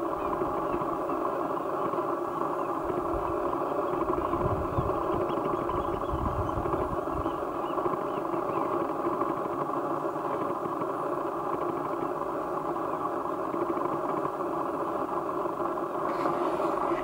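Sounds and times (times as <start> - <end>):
steady mechanical drone: 0.0 - 17.0.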